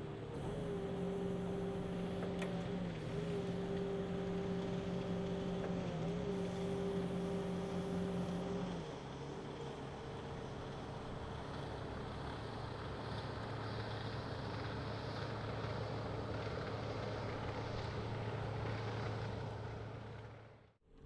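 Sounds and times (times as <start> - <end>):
forklift engine humming: 0.0 - 20.7.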